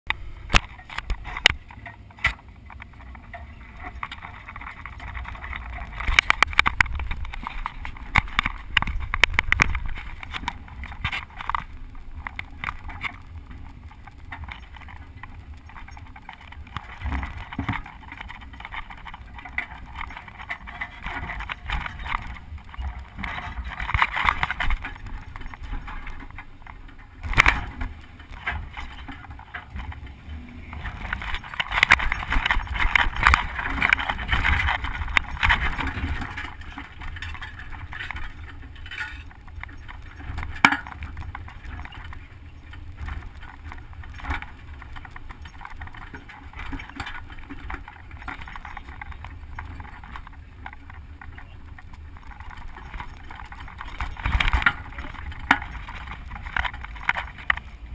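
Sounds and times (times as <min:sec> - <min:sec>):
low engine rumble: 0:00.1 - 0:57.9.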